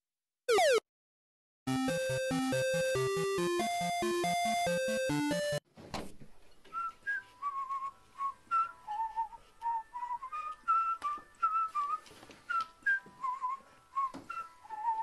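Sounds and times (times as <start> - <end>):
whistled melody: 1.8 - 5.6, 6.6 - 15.0.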